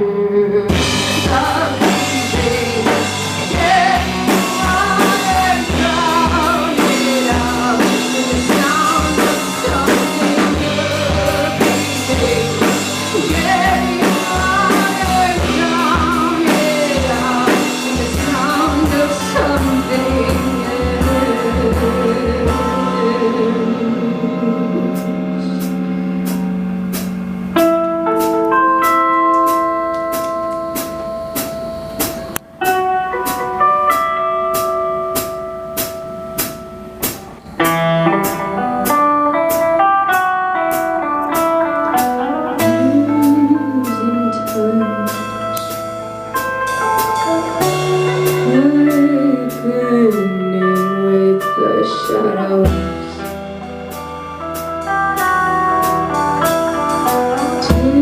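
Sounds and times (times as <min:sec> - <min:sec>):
bent wavering guitar notes: 0:00.0 - 0:58.0
held guitar notes: 0:00.0 - 0:58.0.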